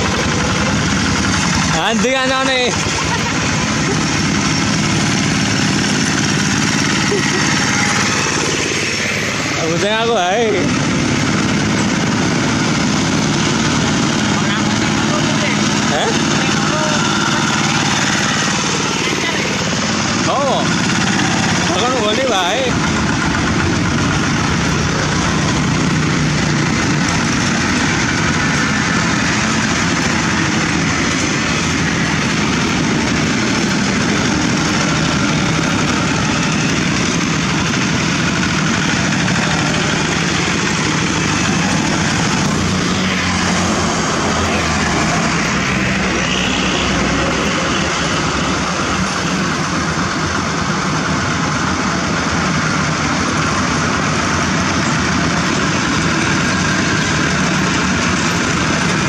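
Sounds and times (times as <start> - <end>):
walking tractor diesel engines: 0.0 - 59.0.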